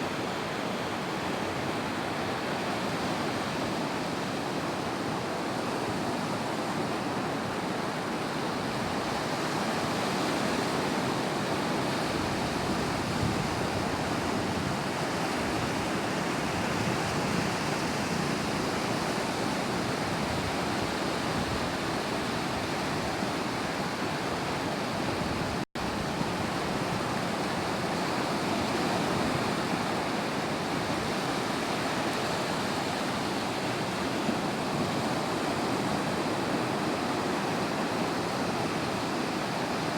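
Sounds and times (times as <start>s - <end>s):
sea surf washing onto beach: 0.0s - 39.9s.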